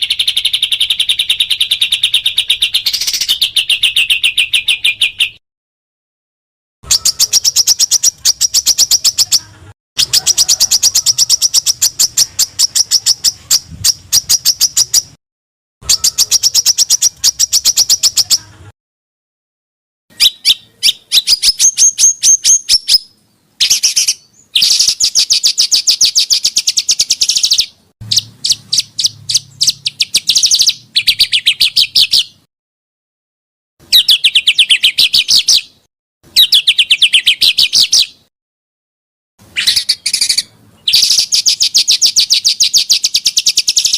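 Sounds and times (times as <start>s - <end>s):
small songbird calling: 0.0s - 5.4s, 6.9s - 15.2s, 15.8s - 18.5s, 20.1s - 32.5s, 33.8s - 38.3s, 39.5s - 43.9s.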